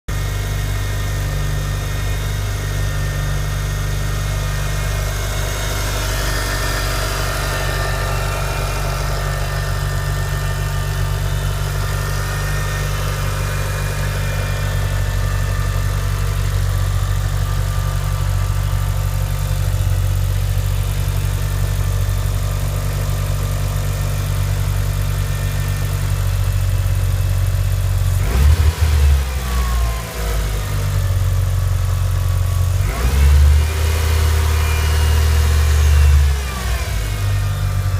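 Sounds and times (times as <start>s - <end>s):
car engine idling: 0.1s - 37.9s.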